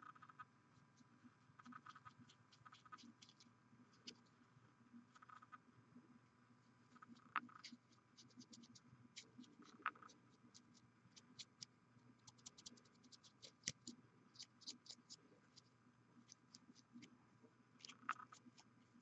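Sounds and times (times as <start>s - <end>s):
small plastic clicks and scratches: 0.0s - 4.4s, 5.1s - 5.6s, 6.9s - 17.2s, 17.8s - 18.8s.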